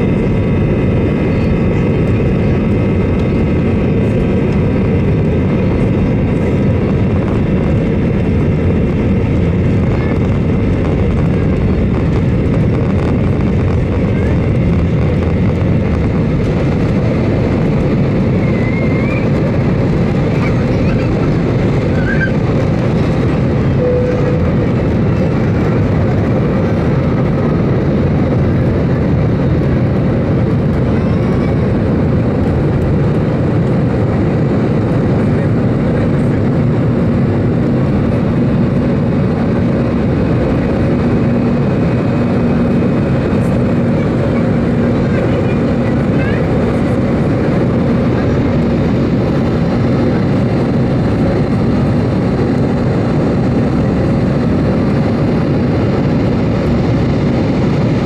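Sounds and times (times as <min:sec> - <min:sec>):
airplane cabin engine and airflow noise: 0:00.0 - 0:58.0.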